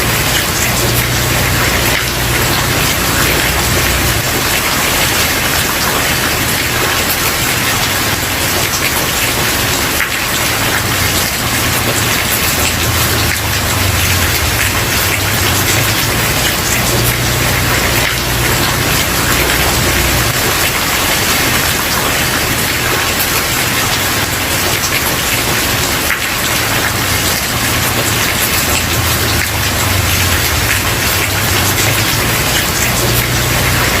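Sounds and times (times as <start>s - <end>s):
rain on wooden porch: 0.0s - 34.0s.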